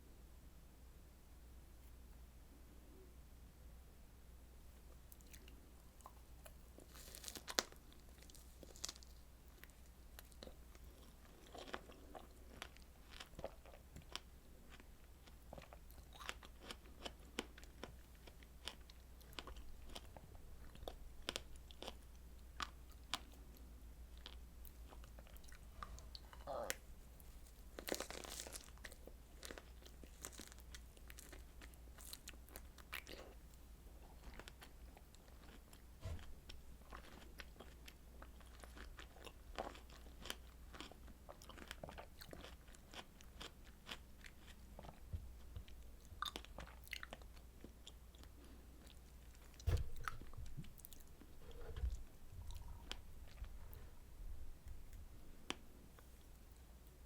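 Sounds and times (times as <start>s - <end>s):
person chewing crunchy food: 5.2s - 53.9s.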